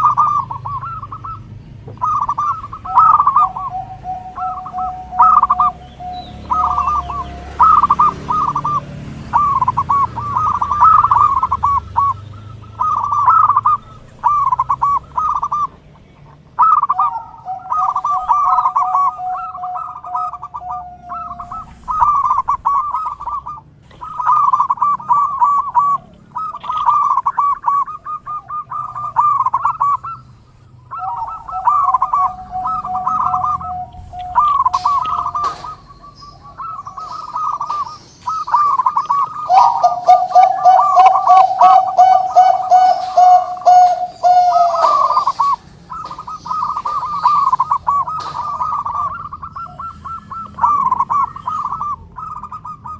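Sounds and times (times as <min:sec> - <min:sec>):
dove trilled cooing: 0:00.0 - 0:52.9.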